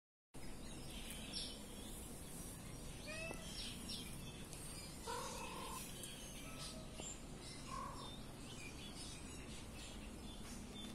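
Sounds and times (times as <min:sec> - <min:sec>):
outdoor background noise: 0:00.4 - 0:10.9
small birds chirping: 0:00.4 - 0:10.9.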